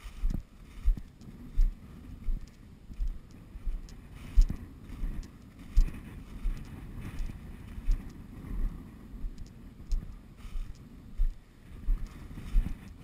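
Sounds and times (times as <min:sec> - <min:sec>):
footsteps walking: 0:00.0 - 0:13.0
light rustle: 0:00.0 - 0:13.0.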